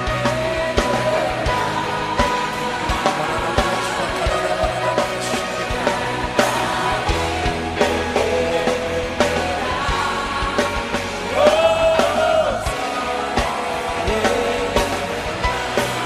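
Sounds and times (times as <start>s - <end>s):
man singing: 0.0s - 5.9s, 7.0s - 16.0s
band playing: 0.0s - 16.0s.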